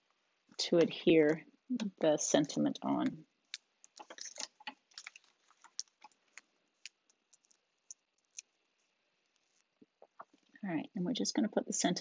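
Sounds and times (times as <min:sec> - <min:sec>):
small clicks and crackles: 0:00.0 - 0:10.6.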